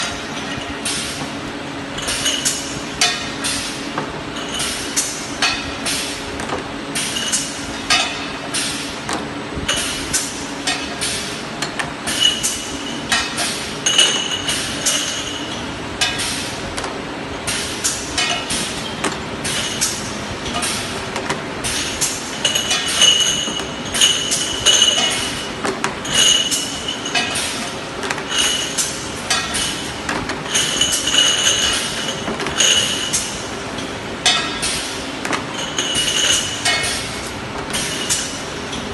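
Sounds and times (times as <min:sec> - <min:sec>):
machine clicks and clinks: 0:02.0 - 0:03.6, 0:07.0 - 0:08.7, 0:09.7 - 0:16.9, 0:17.5 - 0:38.9.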